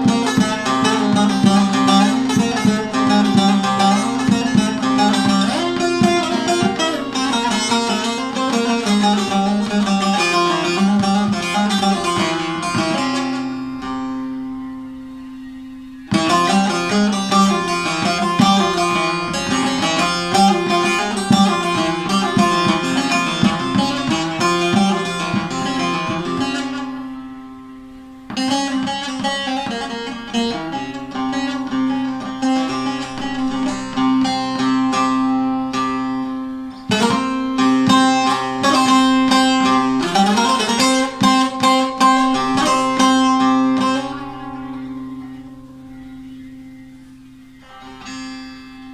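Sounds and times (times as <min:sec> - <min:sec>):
plucked lute melody with drone: 0:00.0 - 0:48.9.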